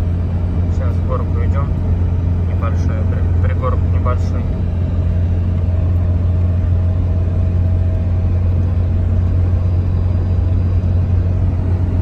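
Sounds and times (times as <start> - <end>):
van engine droning: 0.0 - 12.0.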